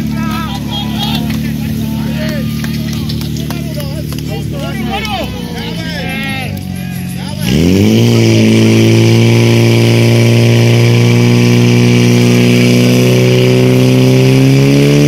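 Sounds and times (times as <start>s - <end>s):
pump engine running at high revs: 0.0s - 15.0s.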